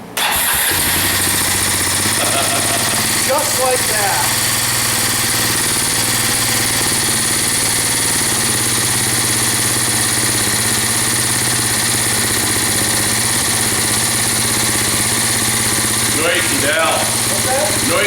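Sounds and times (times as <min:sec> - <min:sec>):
engine idling: 0:00.0 - 0:18.0
noisy valve train: 0:00.0 - 0:18.0.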